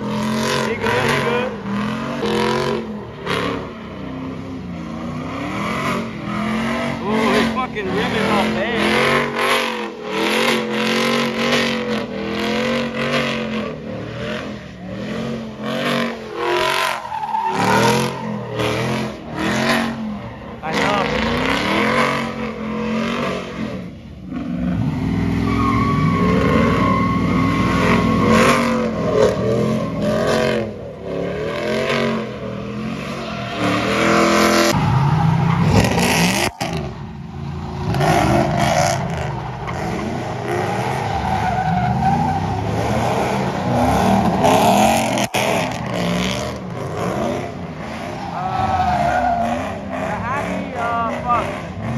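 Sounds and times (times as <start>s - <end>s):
truck engines revving: 0.0s - 51.9s
tyres squealing on asphalt: 0.0s - 51.9s.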